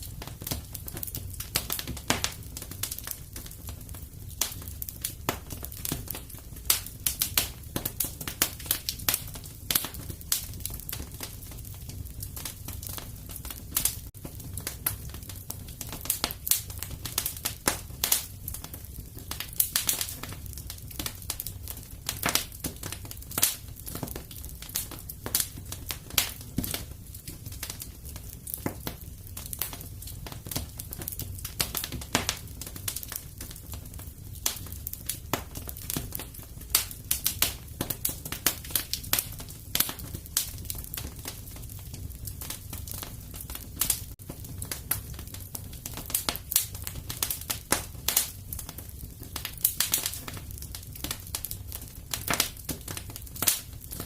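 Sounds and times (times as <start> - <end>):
wood fire crackling in fireplace: 0.0 - 54.0.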